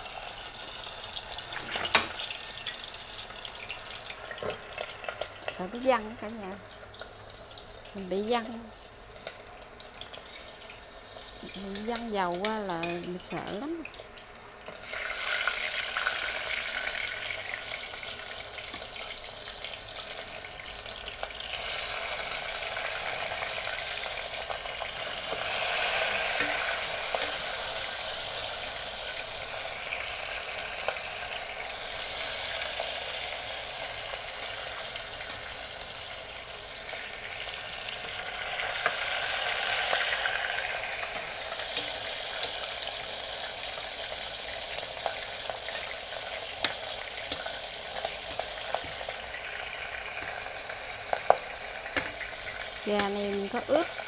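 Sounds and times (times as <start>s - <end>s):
chicken frying with sizzle and pops: 0.0s - 54.0s.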